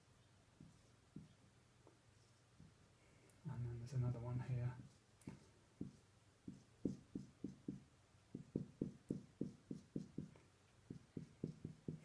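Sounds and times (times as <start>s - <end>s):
marker strokes on whiteboard: 0.6s - 2.8s, 4.3s - 12.0s.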